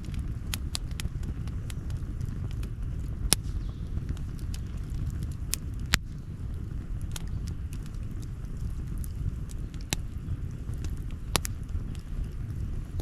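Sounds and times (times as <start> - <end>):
campfire crackling and popping: 0.0 - 13.0
low rumble: 0.0 - 13.0.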